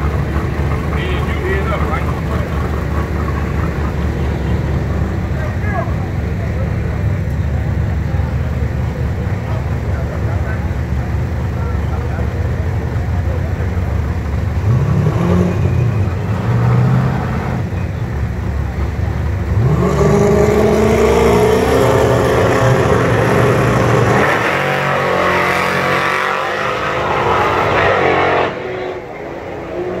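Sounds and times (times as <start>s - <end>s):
drag race car engines accelerating: 0.0s - 30.0s.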